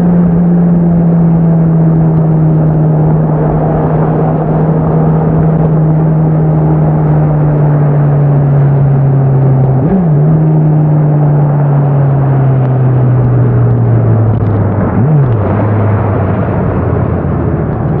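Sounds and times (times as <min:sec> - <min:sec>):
motorcycle engine and exhaust: 0:00.0 - 0:18.0
wind rush: 0:00.0 - 0:18.0.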